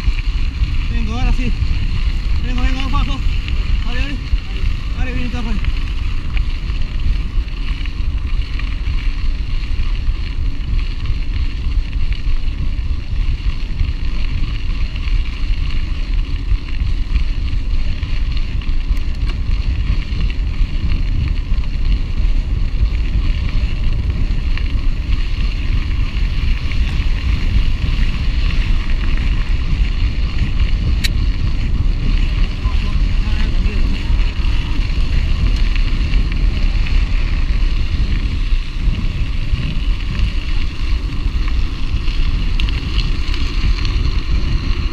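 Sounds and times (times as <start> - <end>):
bike tyres rolling on gravel: 0.0 - 44.9
wind noise on microphone: 0.0 - 44.9.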